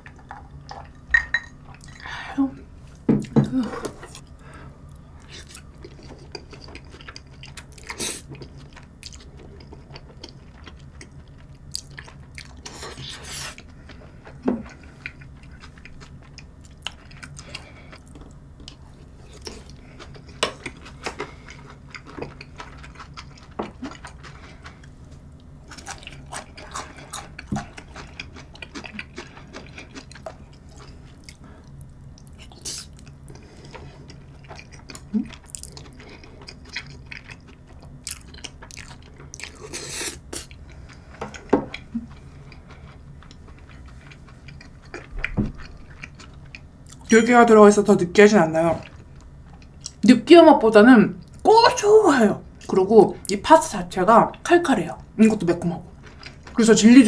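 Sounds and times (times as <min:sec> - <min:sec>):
person chewing food: 0:00.0 - 0:02.1, 0:02.9 - 0:47.2, 0:48.8 - 0:50.0, 0:55.9 - 0:56.6.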